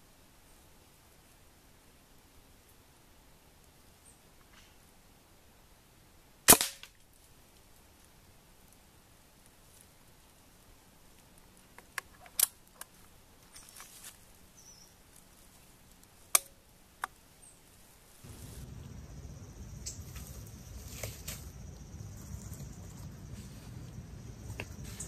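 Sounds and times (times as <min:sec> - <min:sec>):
low background noise: 0:00.0 - 0:25.0.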